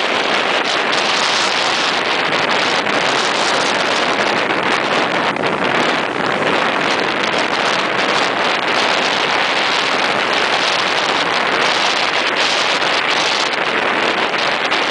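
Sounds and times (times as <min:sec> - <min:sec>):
sea surf breaking: 0:00.0 - 0:14.9
strong wind on microphone: 0:00.0 - 0:14.9.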